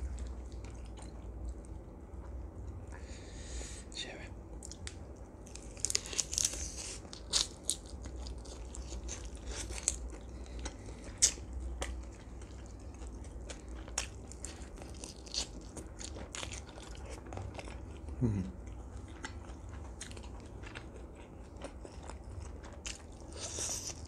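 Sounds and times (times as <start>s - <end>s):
biting and chewing meat: 4.6s - 24.0s.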